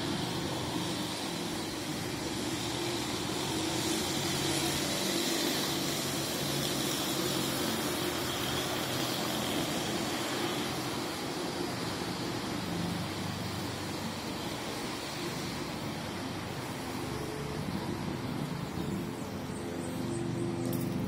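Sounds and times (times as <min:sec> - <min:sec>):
city street traffic: 0:00.0 - 0:21.0.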